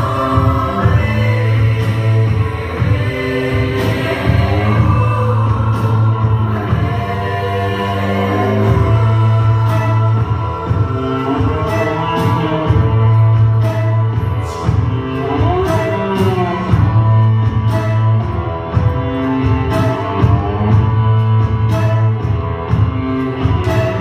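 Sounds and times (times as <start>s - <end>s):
deep pulsing bass: 0.0s - 24.0s
sustained synth notes: 0.0s - 24.0s.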